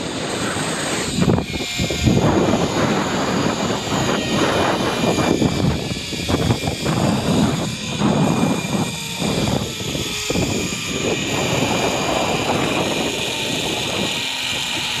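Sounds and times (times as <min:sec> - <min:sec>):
wind buffeting microphone: 0:00.0 - 0:15.0
zipline trolley running on cable: 0:00.0 - 0:15.0.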